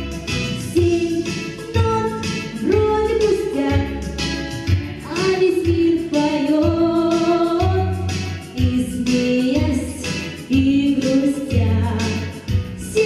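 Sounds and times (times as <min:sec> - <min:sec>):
instrumental backing with beat: 0:00.0 - 0:13.0
woman singing pop song: 0:00.0 - 0:13.0.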